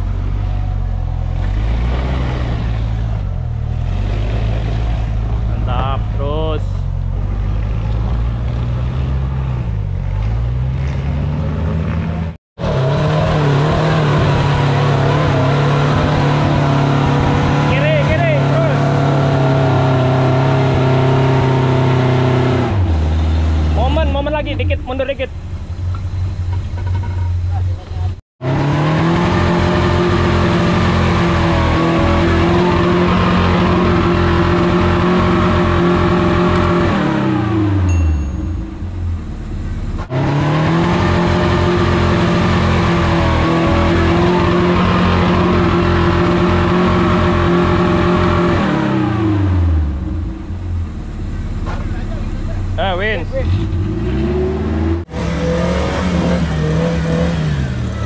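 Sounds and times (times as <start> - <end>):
off-road vehicle engine running: 0.0 - 58.0.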